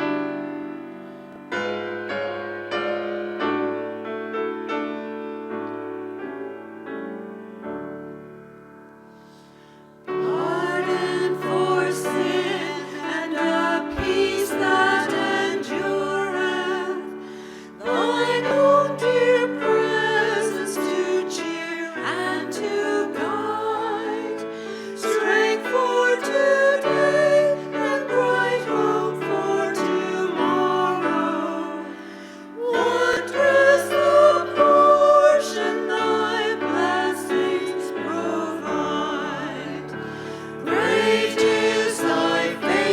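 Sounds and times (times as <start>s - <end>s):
choir singing a hymn: 0.0s - 1.8s, 9.2s - 42.9s
keyboard accompaniment: 0.0s - 42.9s.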